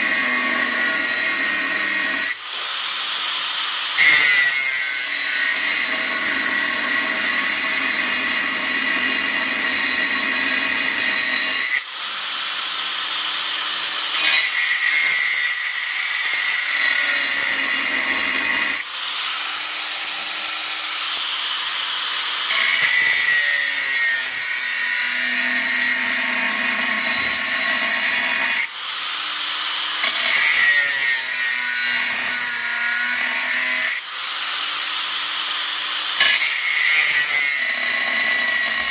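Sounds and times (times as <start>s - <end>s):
power tool grinding steel: 0.0s - 38.9s.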